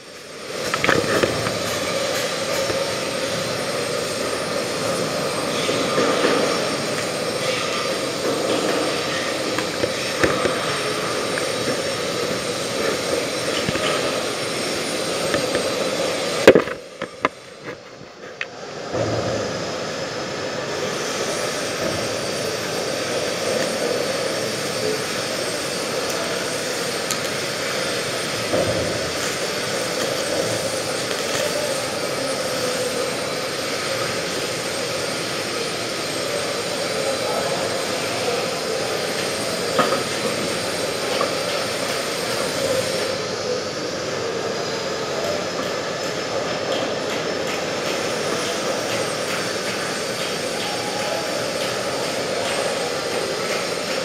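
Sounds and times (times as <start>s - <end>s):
mechanical drone: 0.0s - 54.0s.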